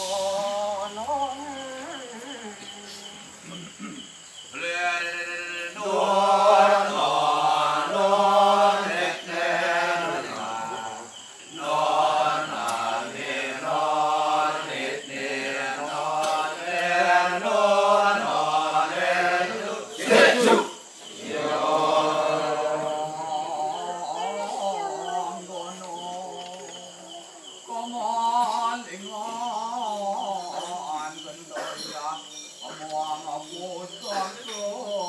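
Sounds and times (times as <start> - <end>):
male chorus chanting: 0.0 - 3.9, 4.5 - 35.0.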